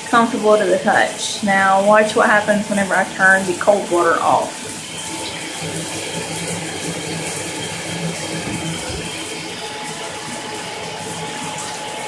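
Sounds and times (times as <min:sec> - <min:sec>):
faint plumbing hum: 0:00.0 - 0:12.0
shower water running into bathtub: 0:00.0 - 0:12.0.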